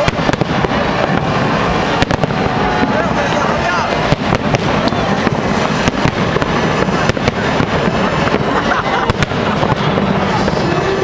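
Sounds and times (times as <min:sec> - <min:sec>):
continuous loud din: 0:00.0 - 0:11.0
fireworks bangs and crackles: 0:00.0 - 0:11.0.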